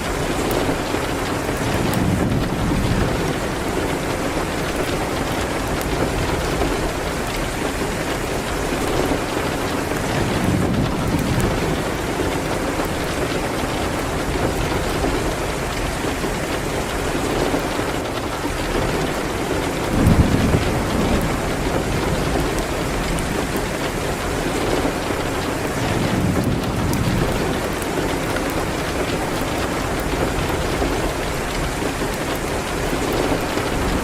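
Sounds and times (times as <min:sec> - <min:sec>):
low thunder rumble: 0:00.0 - 0:34.0
rain against a window: 0:00.0 - 0:34.0
wood fire crackling: 0:00.0 - 0:34.0.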